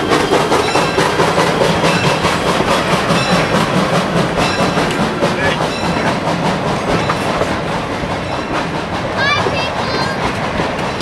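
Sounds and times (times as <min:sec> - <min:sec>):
train wheels on rails: 0:00.0 - 0:11.0
wheels clicking over rail joints: 0:00.0 - 0:11.0.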